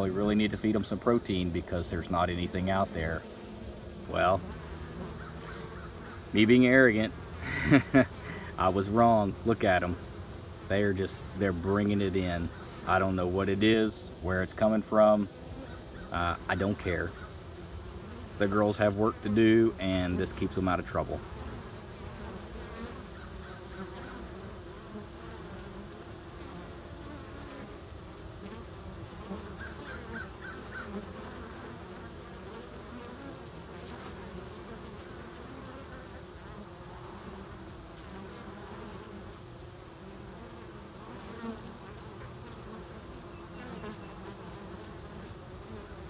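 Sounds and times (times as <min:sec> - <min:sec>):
honeybees buzzing: 0:00.0 - 0:46.0.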